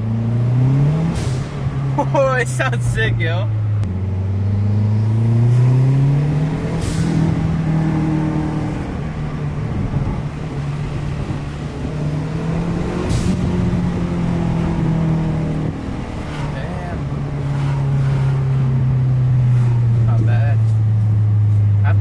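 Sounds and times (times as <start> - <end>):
turbocharged car engine accelerating: 0.0 - 22.0.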